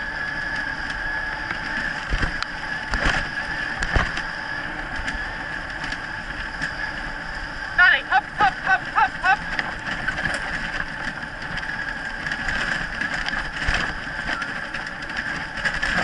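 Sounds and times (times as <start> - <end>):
wheels rattling on dirt trail: 0.0 - 16.0.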